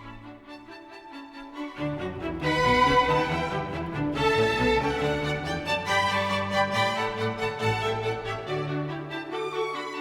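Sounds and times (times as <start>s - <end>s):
instrumental music with violin: 0.0s - 10.0s.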